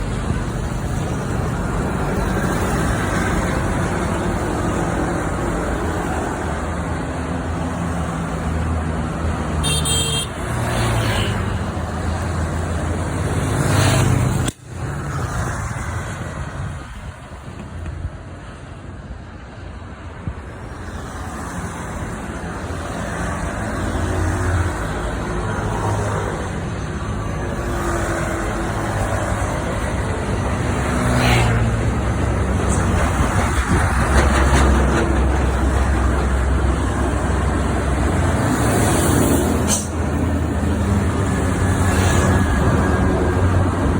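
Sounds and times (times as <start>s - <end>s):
diesel truck engines: 0.0s - 43.9s.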